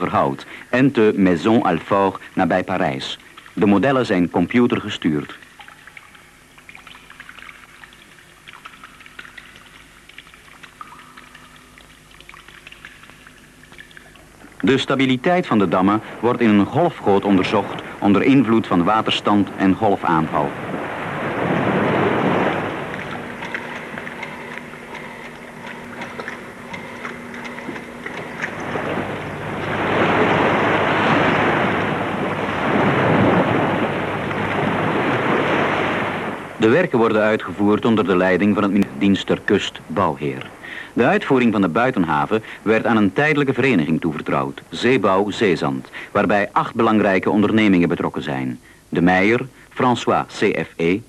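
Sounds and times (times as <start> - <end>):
water splashing and bubbling: 0.0 - 47.4
faint low hum: 0.0 - 51.0.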